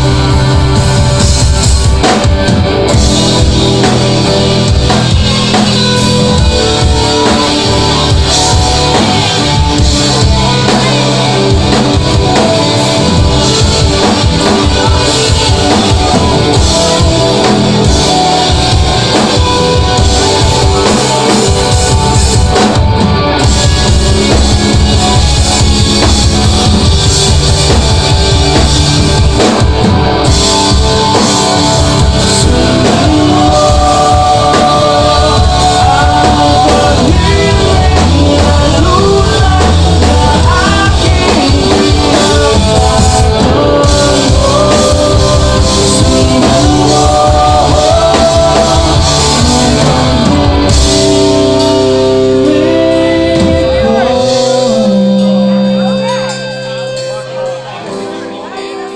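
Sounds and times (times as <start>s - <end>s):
bass guitar: 0.0s - 58.9s
drums: 0.0s - 58.9s
electric and acoustic guitars: 0.0s - 58.9s
person singing: 0.0s - 58.9s.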